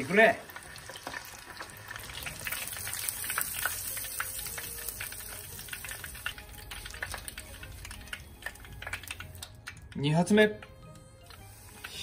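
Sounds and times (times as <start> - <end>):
fish deep-frying in hot oil: 0.0 - 12.0
oil crackling and popping: 0.0 - 12.0.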